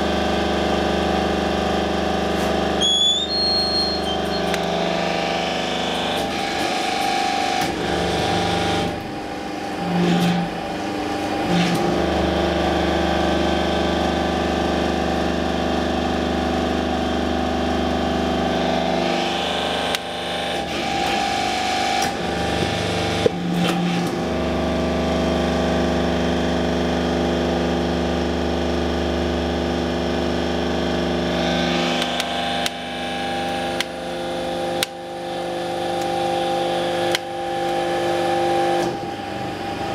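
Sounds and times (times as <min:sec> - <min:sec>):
brick press machine hum: 0:00.0 - 0:39.9.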